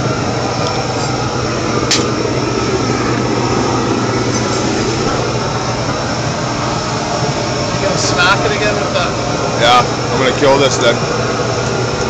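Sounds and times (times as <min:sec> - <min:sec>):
arc welder hum and crackle: 0:00.0 - 0:12.0.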